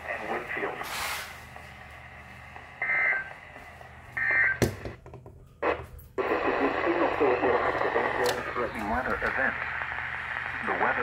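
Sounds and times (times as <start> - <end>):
radio hiss: 0.0 - 3.9, 5.6 - 11.0.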